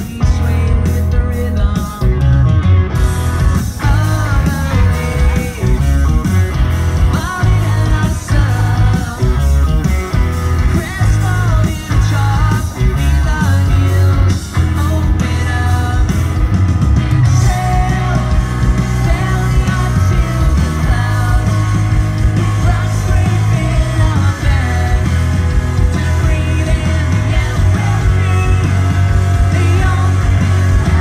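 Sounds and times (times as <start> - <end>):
live rock band playing loudly: 0.0 - 31.0.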